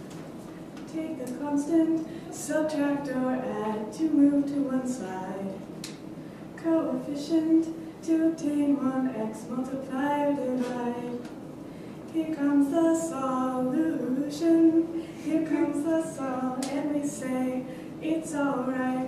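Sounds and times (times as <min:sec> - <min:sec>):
woman singing a cappella: 0:00.8 - 0:05.7, 0:06.6 - 0:11.4, 0:12.0 - 0:19.0.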